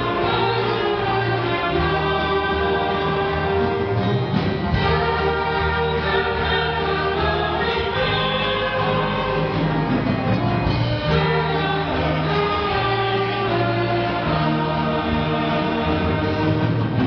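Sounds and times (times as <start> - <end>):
orchestra playing a hymn: 0.0 - 17.0.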